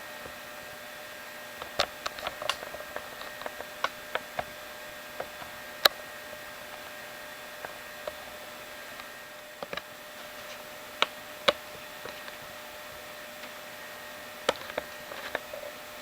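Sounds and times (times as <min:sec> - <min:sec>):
faint hum: 0:00.0 - 0:16.0
steady hiss: 0:00.0 - 0:16.0.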